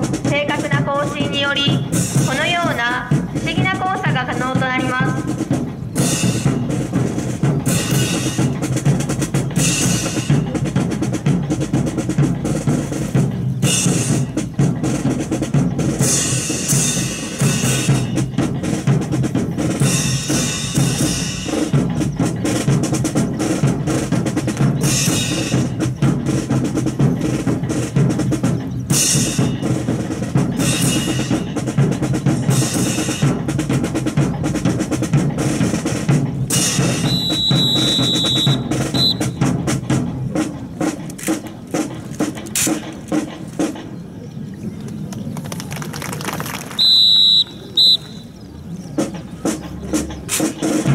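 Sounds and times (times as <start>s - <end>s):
snare drum: 0.0s - 43.8s, 46.2s - 48.2s, 49.0s - 50.9s.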